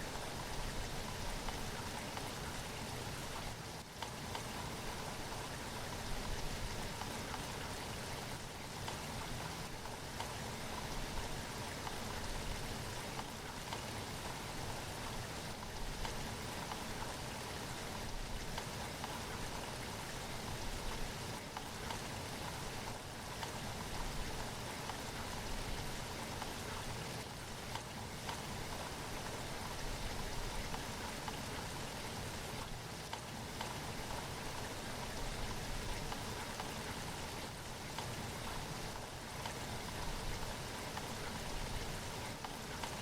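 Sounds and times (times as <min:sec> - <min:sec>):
raindrops pattering on surfaces: 0:00.0 - 0:43.0
steady rain falling: 0:00.0 - 0:43.0.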